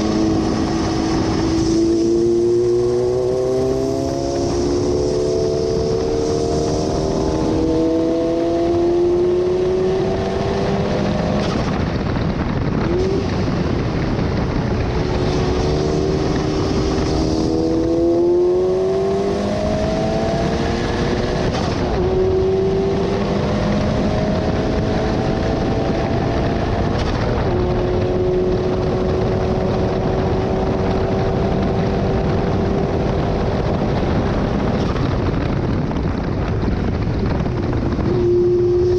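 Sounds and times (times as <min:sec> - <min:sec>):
car engine at full throttle: 0:00.0 - 0:38.9
wind rush: 0:00.0 - 0:38.9.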